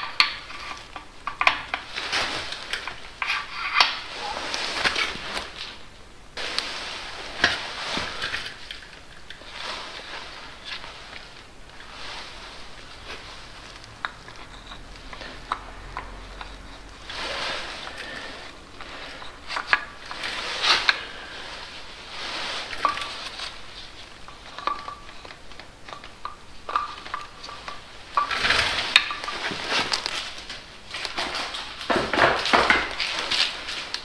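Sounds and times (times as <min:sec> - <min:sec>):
rustling scraping handling noise: 0:00.0 - 0:34.0.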